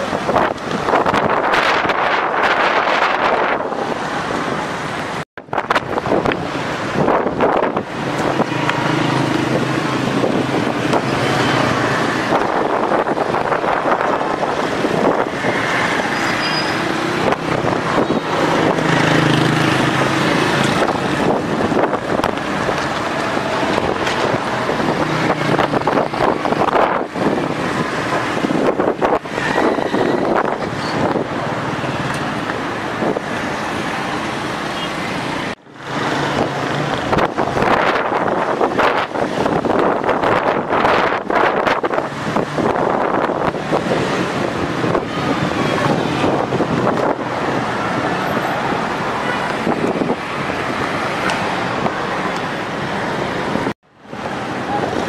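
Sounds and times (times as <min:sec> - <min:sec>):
wind buffeting microphone: 0:00.0 - 0:04.4, 0:05.1 - 0:34.1, 0:35.1 - 0:53.7
road traffic: 0:00.0 - 0:55.0
strong gusting wind: 0:00.0 - 0:55.0.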